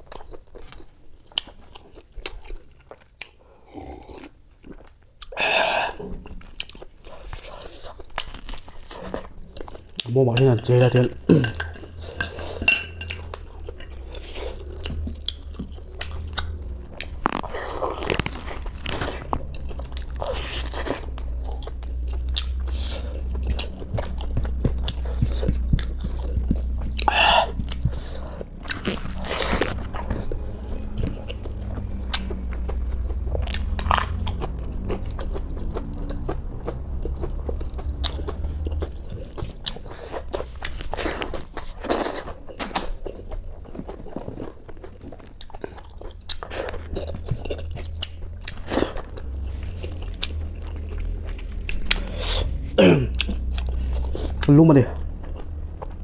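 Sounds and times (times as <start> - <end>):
person biting and chewing food: 0.0 - 10.1, 11.2 - 56.0
low steady hum: 0.0 - 56.0.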